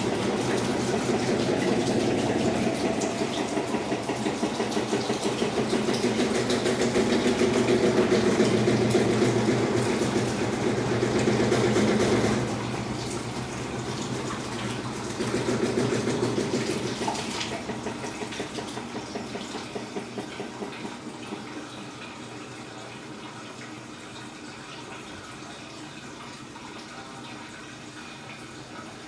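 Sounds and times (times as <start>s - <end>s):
washing machine low hum: 0.0s - 29.0s
water sloshing in washing machine: 0.0s - 29.0s.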